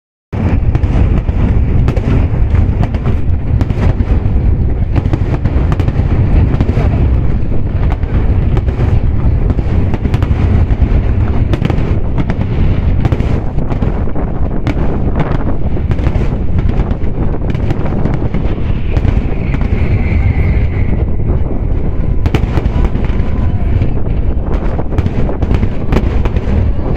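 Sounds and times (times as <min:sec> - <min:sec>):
fireworks booming and cracking: 0:00.3 - 0:26.9.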